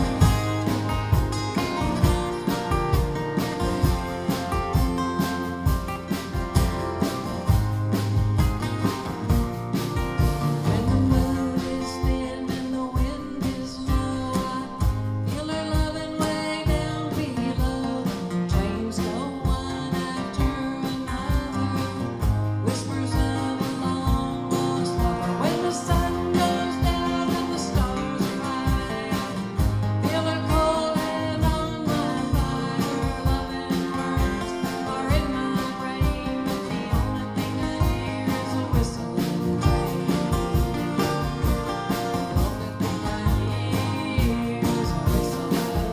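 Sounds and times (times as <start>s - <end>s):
acoustic guitars strumming: 0.0s - 45.9s.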